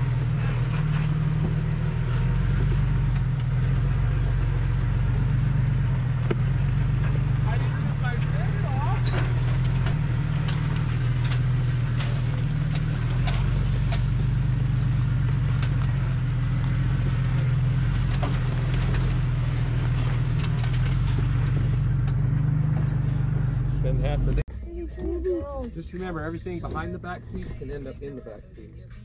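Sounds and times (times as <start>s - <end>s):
engine droning under load: 0.0s - 29.0s.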